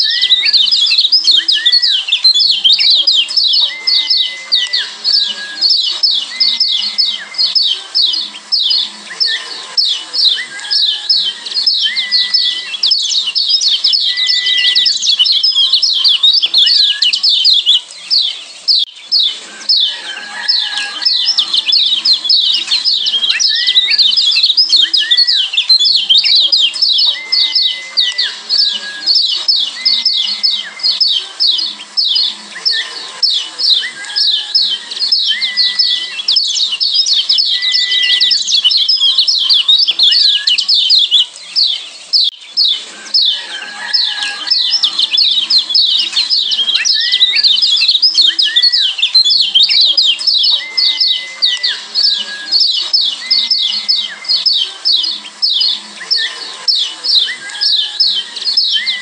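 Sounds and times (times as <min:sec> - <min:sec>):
bird chirping rapidly: 0:00.0 - 0:59.0.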